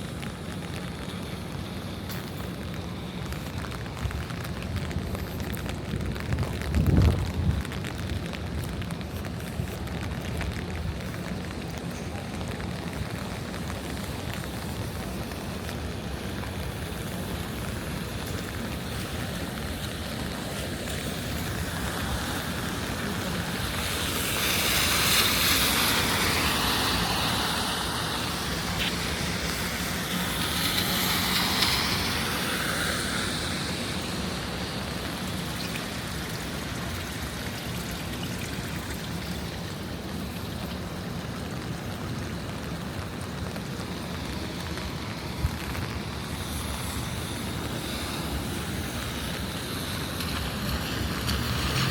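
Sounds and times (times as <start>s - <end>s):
low hum of city traffic: 0.0s - 51.9s
steady rain: 0.0s - 51.9s
tyres hissing on wet pavement: 0.0s - 51.9s.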